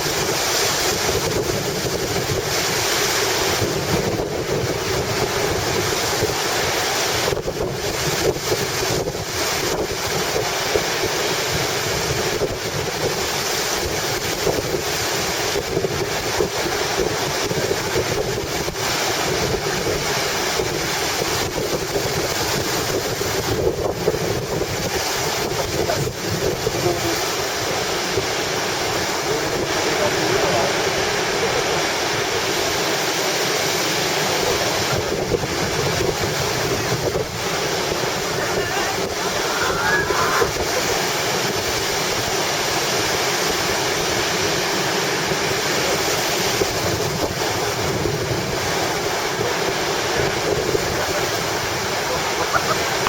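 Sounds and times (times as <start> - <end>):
small waves breaking: 0.0 - 53.0
strong wind buffeting microphone: 0.0 - 53.0.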